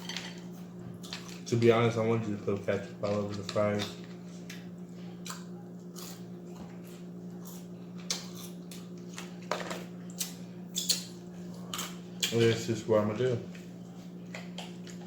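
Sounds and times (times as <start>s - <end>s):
food being chewed: 0.0s - 1.5s, 2.5s - 12.6s, 13.5s - 15.0s
steady low hum: 0.0s - 15.0s.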